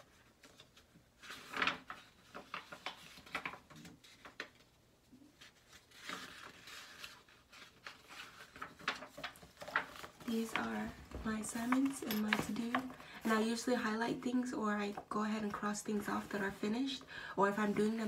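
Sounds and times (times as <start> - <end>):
paper pages rustling: 0.0 - 14.0, 14.7 - 18.0.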